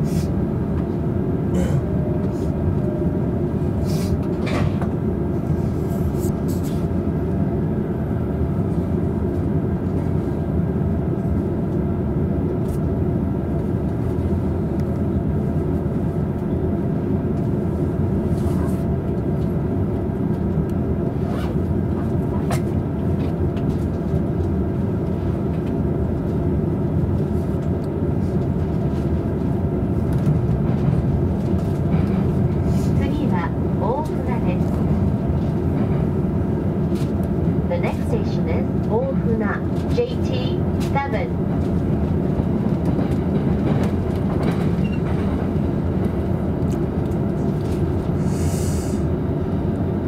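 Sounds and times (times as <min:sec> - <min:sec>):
train interior low rumble: 0:00.0 - 0:50.0.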